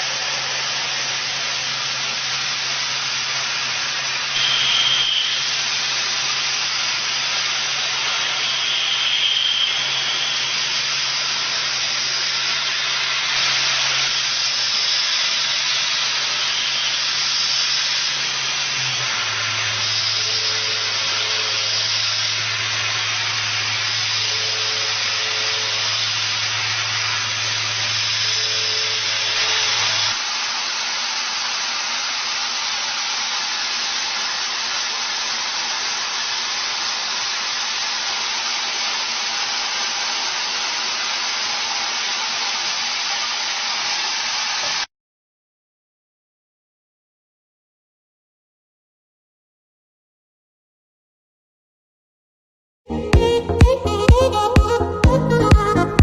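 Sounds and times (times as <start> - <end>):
machine hiss: 0.0 - 44.9.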